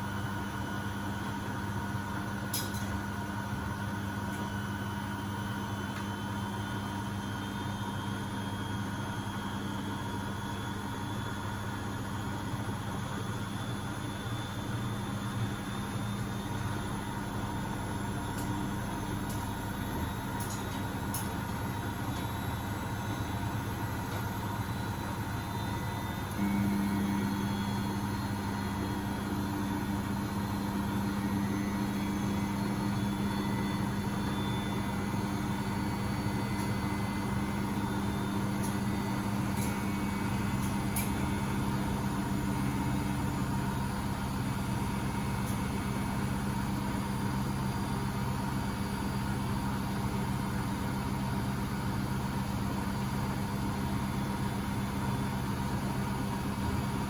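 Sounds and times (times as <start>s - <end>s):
washing machine spinning hum: 0.0s - 57.0s.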